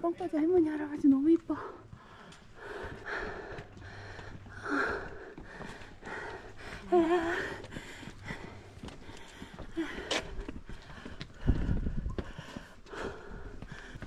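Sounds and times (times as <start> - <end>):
person breathing heavily: 1.5 - 14.0.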